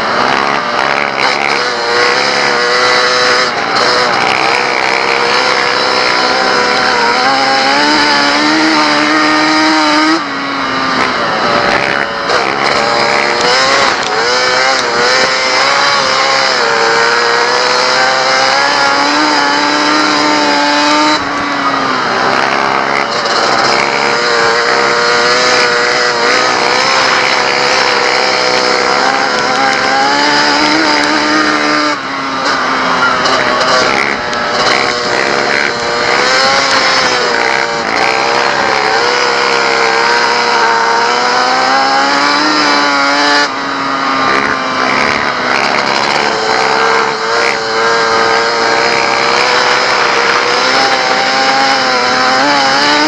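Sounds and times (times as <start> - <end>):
quad engine accelerating: 0.0 - 53.0.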